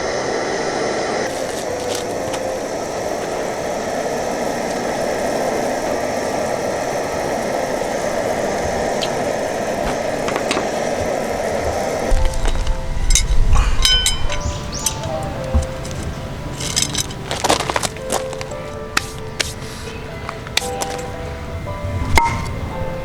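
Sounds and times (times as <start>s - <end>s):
gas stove flame rushing: 0.0s - 21.2s.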